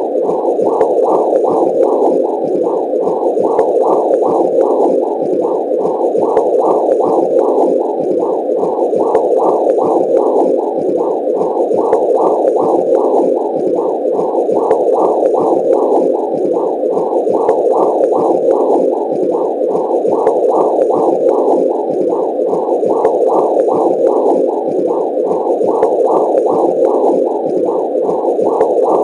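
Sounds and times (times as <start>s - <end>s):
muffled pulsing whooshing: 0.0s - 29.0s.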